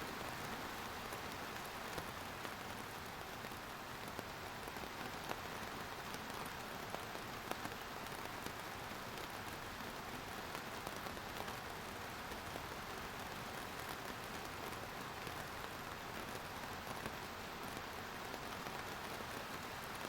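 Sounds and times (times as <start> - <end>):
rain hissing: 0.0 - 6.6, 7.2 - 20.0
raindrops ticking: 0.0 - 20.0.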